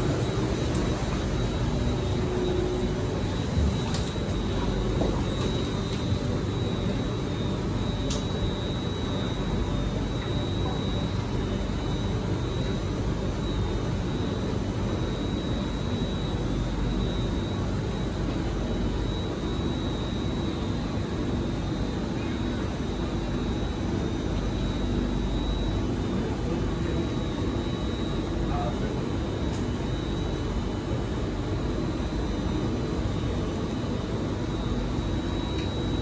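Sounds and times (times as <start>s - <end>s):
high-pitched whine: 0.0s - 36.0s.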